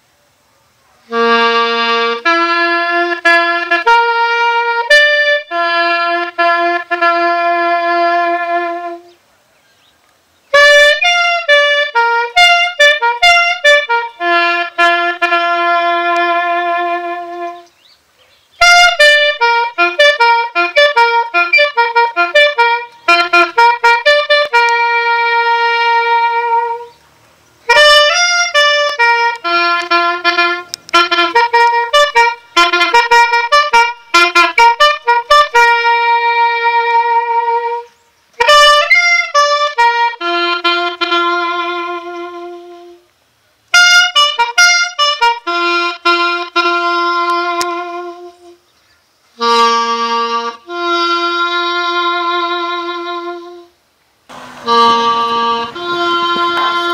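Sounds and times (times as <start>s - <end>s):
solo bugle call: 1.1s - 9.2s, 10.5s - 17.8s, 18.6s - 27.0s, 27.6s - 48.7s, 49.4s - 56.9s.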